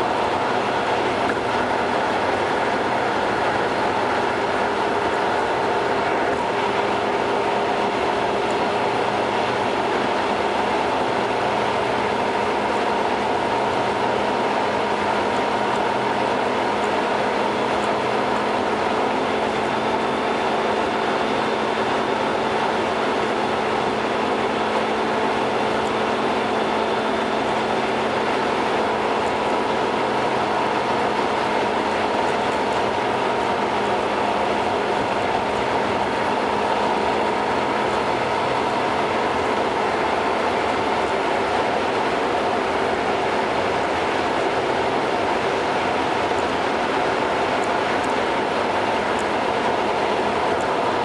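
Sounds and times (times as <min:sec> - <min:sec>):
car tyres on road: 0:00.0 - 0:51.0.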